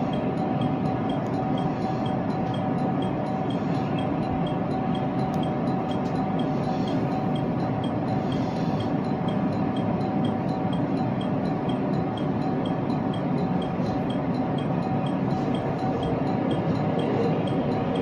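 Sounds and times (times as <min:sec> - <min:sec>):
constant electric hum: 0:00.0 - 0:18.0
train rumble: 0:00.0 - 0:18.0.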